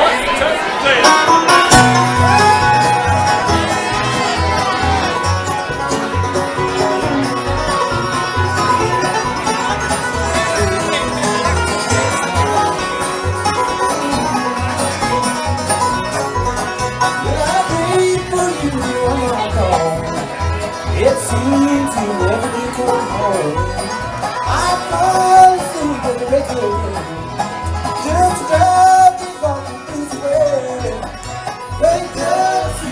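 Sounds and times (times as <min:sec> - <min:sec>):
banjo picking: 0:00.0 - 0:32.9
fiddle: 0:00.0 - 0:32.9
dobro: 0:00.1 - 0:32.9
upright bass notes: 0:01.0 - 0:32.9.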